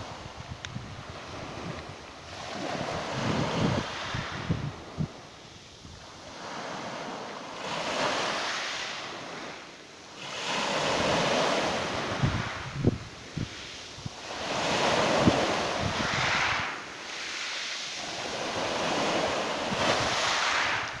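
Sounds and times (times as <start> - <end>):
waves breaking on pebble beach: 0.0 - 21.0.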